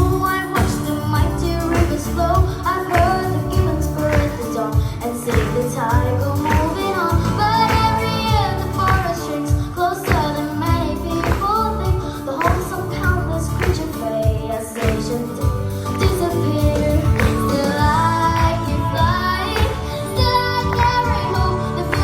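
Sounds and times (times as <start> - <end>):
children singing with music: 0.0 - 22.0.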